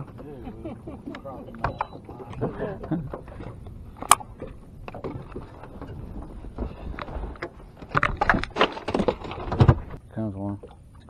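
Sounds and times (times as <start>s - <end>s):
low boat rumble: 0.0s - 11.0s.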